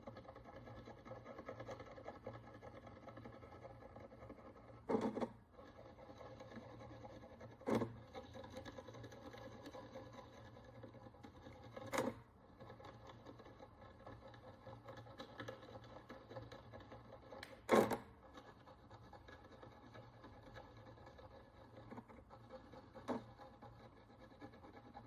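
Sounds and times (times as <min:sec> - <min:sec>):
hand tool scraping a coin: 0:00.0 - 0:25.0.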